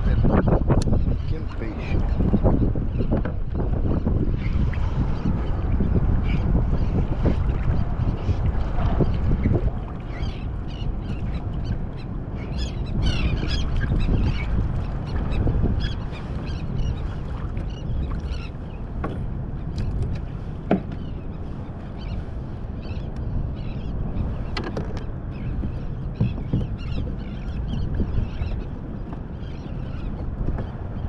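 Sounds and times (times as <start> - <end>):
wind and water noise on microphone: 0.0 - 31.0.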